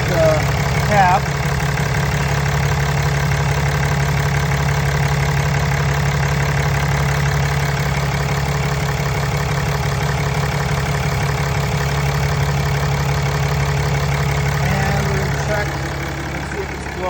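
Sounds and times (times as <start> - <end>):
pickup engine idling: 0.0 - 17.0.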